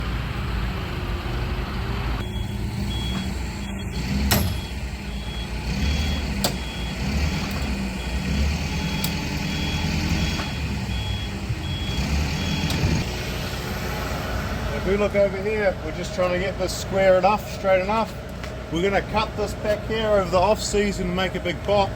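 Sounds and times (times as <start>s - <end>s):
forklift engine running: 0.0s - 21.9s.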